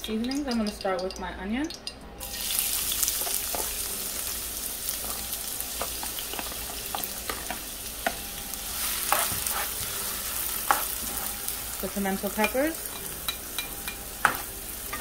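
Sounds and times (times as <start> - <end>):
onion sizzling in hot oil: 1.7 - 15.0.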